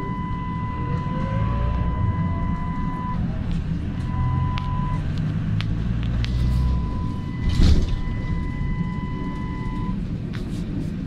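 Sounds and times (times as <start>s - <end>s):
trolleybus cabin rumble: 0.0s - 11.0s.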